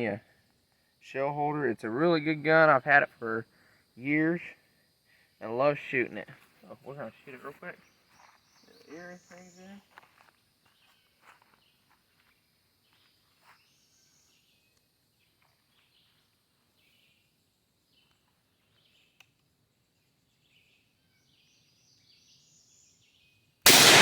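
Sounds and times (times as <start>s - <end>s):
faint high-pitched wildlife chirps: 0.0s - 23.6s.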